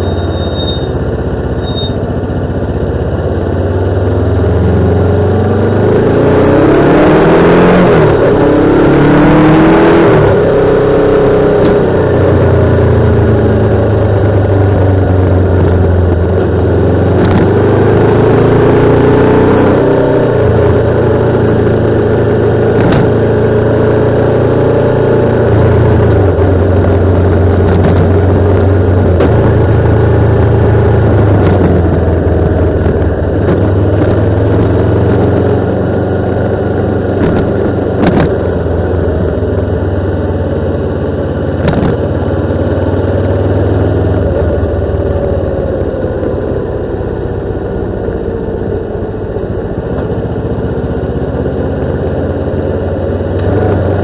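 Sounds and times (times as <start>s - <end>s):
motorcycle engine running: 0.0s - 6.8s, 10.2s - 54.0s.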